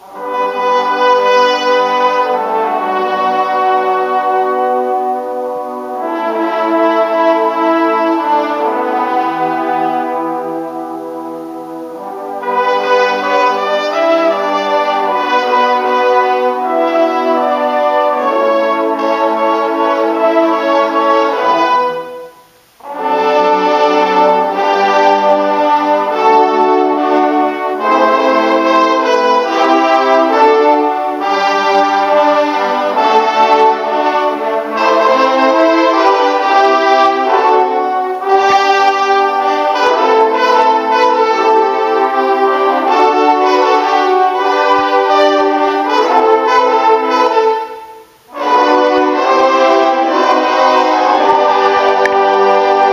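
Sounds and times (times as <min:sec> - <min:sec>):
brass band playing held chords: 0:00.0 - 0:52.9.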